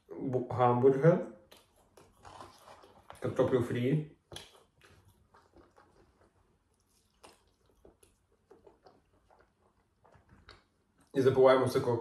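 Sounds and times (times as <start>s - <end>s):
faint close-up chewing: 1.3s - 11.2s.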